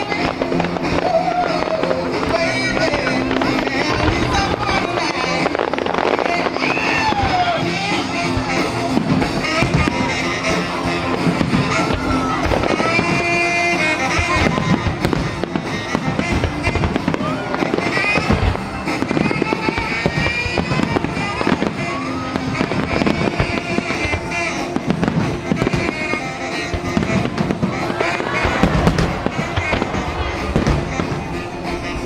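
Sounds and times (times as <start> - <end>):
fireworks bursting and crackling: 0.0 - 32.0
loud music: 0.0 - 32.0.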